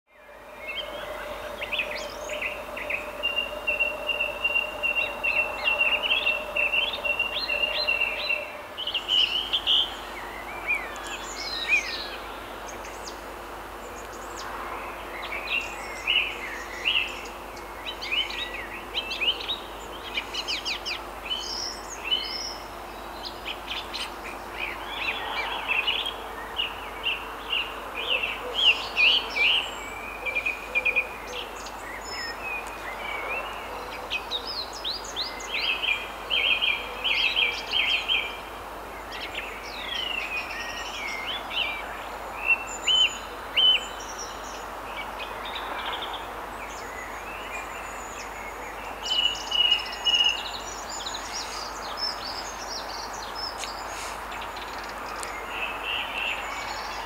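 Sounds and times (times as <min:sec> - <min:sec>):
songbirds singing: 0:00.1 - 0:57.0
background hiss: 0:00.2 - 0:57.0.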